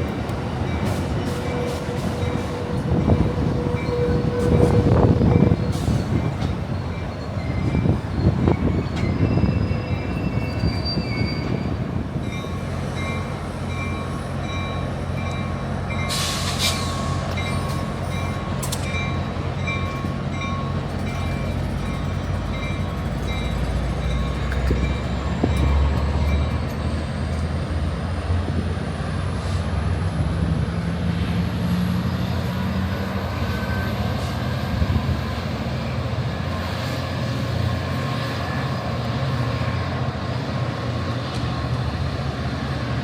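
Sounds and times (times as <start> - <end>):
diesel locomotive engine humming: 0.0 - 43.0
rail cars rumbling: 0.0 - 43.0.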